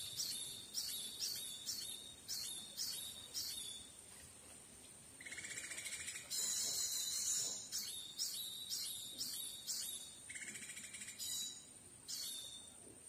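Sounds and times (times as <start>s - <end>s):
songbird fast trill: 0.0s - 4.0s, 5.2s - 12.8s.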